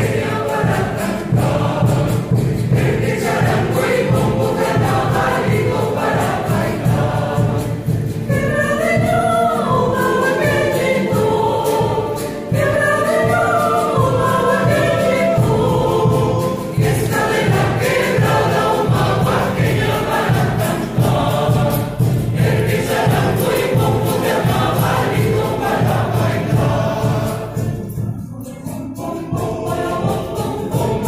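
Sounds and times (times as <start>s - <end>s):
drum beat: 0.0s - 28.1s, 29.1s - 31.0s
choir singing folk song: 0.0s - 31.0s
guitar: 0.0s - 31.0s.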